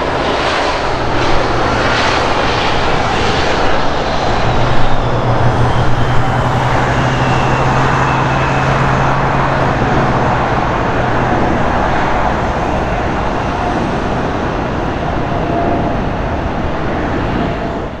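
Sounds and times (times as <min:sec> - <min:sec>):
high engine whine: 0:00.0 - 0:18.0
jet engine roar: 0:00.0 - 0:18.0
low hum: 0:00.0 - 0:18.0.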